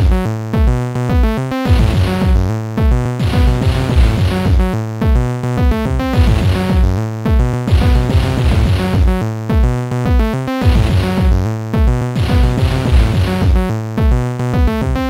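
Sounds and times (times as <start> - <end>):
electronic tracker music: 0.0 - 15.0.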